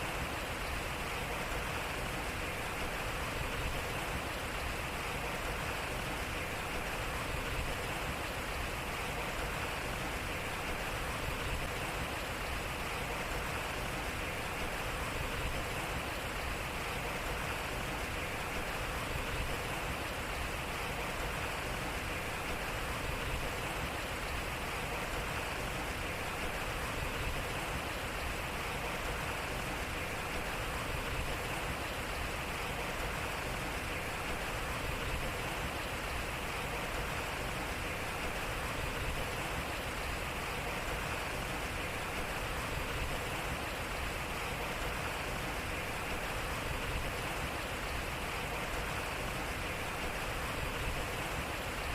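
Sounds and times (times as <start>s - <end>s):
water splashing at a waterwheel: 0.0s - 51.9s.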